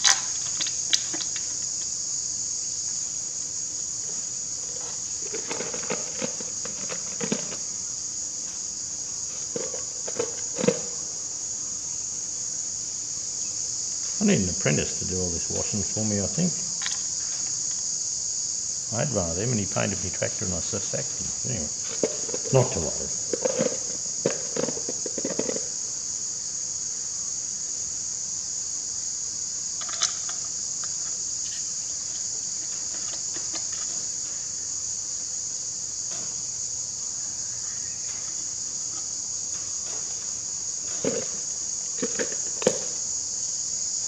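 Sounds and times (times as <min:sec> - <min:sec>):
insects chorus: 0:00.0 - 0:44.0.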